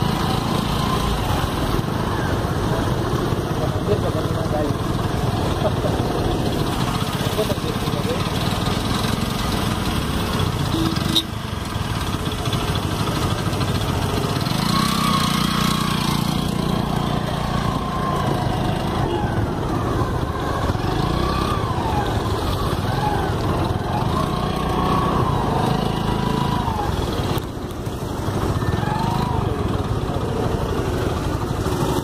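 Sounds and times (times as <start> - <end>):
road noise: 0.0 - 32.0.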